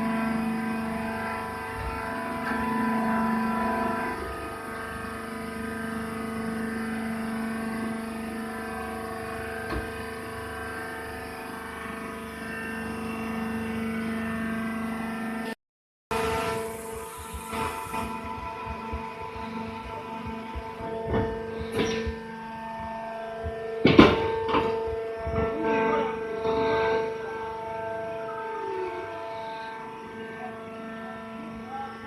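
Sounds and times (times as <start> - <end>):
baling machine humming: 0.0 - 32.0.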